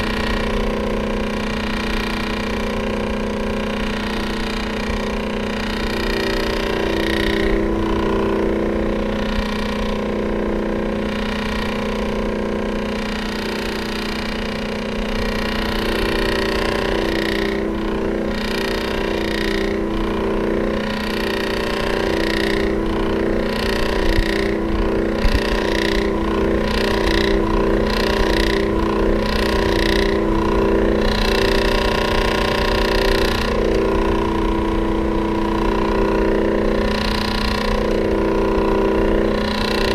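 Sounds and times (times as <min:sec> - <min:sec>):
electric fan motor hum: 0:00.0 - 0:39.9.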